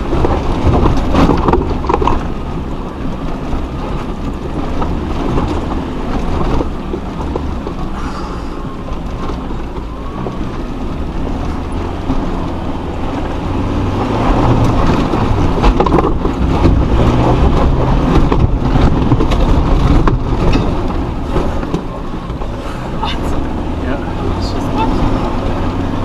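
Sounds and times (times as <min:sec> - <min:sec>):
knocks and rattles: 0:00.0 - 0:26.0
off-road vehicle engine pulling: 0:00.0 - 0:26.0.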